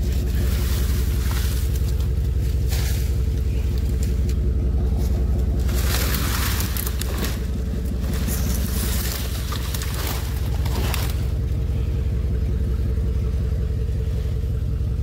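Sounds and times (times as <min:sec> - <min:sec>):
dry palm fronds rustling: 0:00.0 - 0:14.2
truck engine idling: 0:00.0 - 0:15.0.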